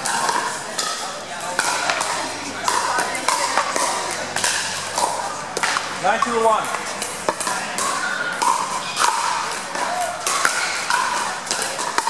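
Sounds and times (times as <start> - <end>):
background chatter in echoing hall: 0.0 - 12.0.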